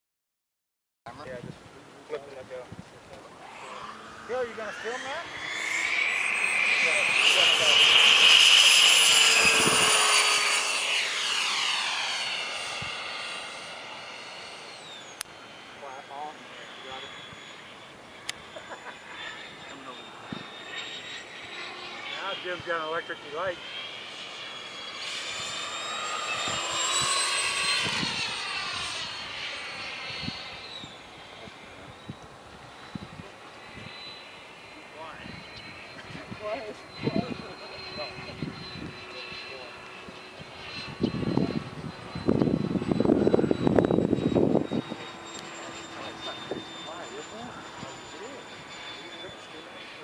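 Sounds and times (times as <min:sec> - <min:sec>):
model jet fan whining: 0:01.1 - 0:50.0.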